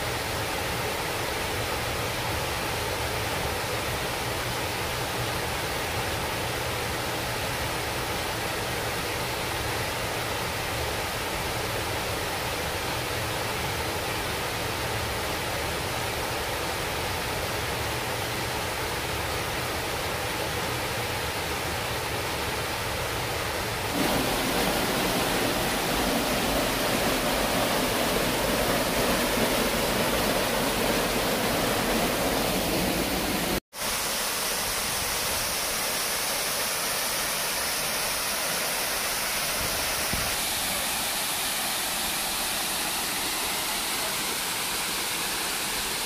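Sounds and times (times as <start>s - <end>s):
waterfall rushing over rock: 0.0s - 46.0s.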